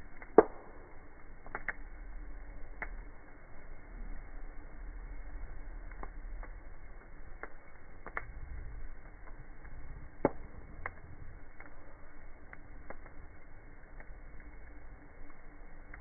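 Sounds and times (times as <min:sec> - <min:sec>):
campfire crackling: 0:00.0 - 0:16.0
low steady rush: 0:00.0 - 0:16.0.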